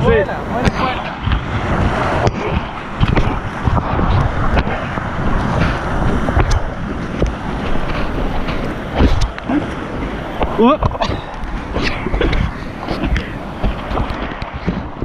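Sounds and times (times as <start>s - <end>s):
whitewater rapids rushing: 0.0s - 15.0s
wind buffeting microphone: 0.0s - 15.0s.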